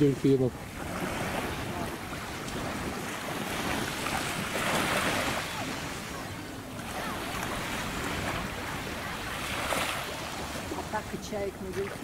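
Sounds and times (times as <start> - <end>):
small waves washing on beach: 0.0 - 12.0
wind buffeting microphone: 0.0 - 12.0.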